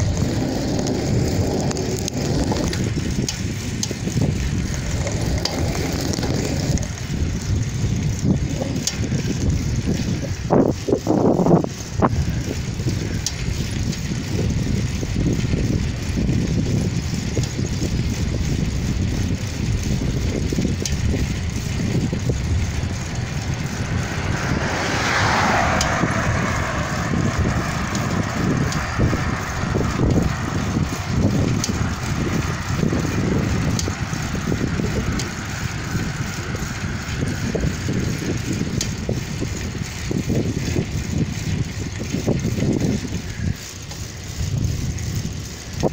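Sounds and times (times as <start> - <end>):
car passing: 0.0 - 14.5, 21.1 - 43.8
wind buffeting microphone: 0.0 - 45.9.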